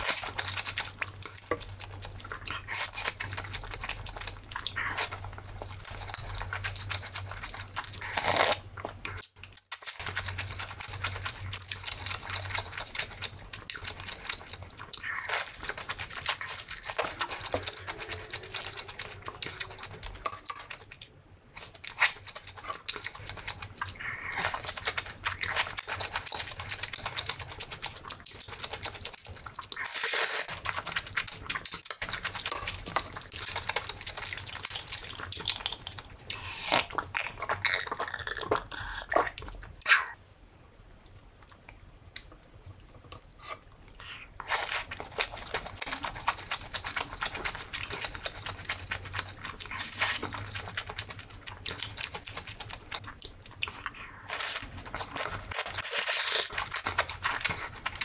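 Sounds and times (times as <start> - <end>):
person chewing: 0.0 - 40.2, 41.4 - 58.0.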